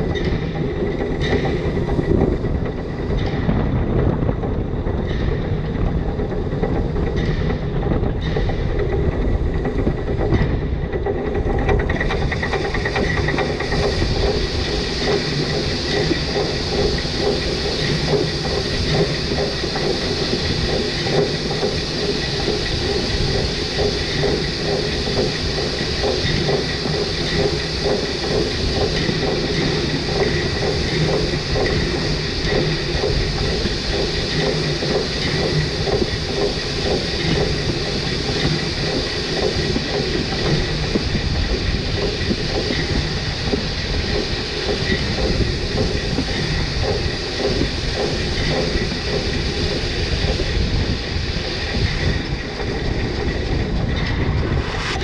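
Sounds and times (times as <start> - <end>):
steam locomotive running: 0.0 - 55.0
wheels clicking on rails: 0.0 - 55.0.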